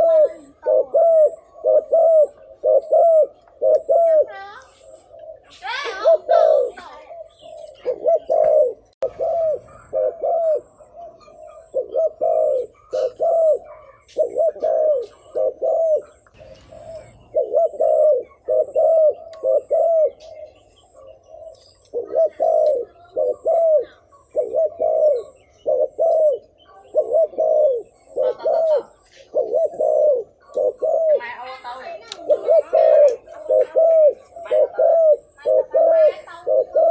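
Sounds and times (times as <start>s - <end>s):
dove cooing: 0.0s - 36.9s.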